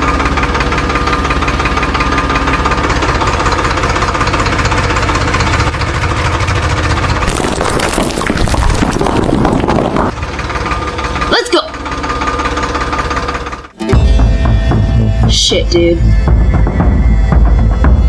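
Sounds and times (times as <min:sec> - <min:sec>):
engine knocking: 0:00.0 - 0:18.0.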